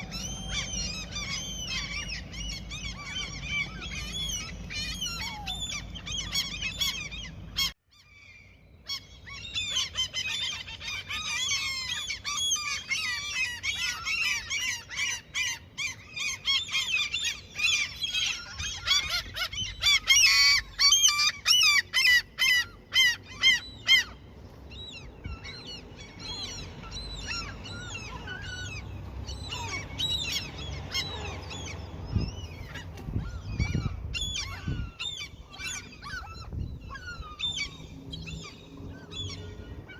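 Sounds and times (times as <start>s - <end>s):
gulls calling: 0.0s - 39.9s
loud rapid gull calls: 0.0s - 39.9s.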